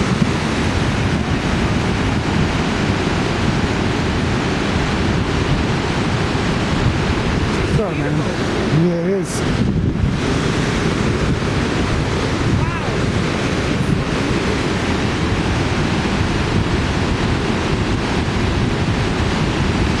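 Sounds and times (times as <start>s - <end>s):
waterfall roar: 0.0s - 20.0s
wind buffeting microphone: 0.0s - 20.0s.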